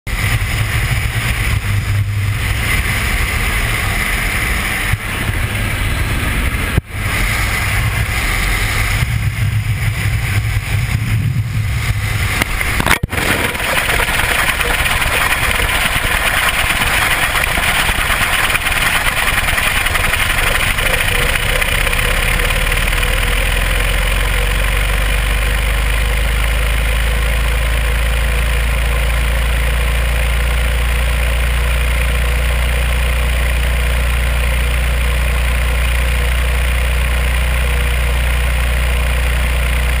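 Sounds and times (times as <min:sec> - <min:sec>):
deep rumble: 0:00.1 - 0:35.8
airplane engine drone: 0:00.1 - 0:40.0.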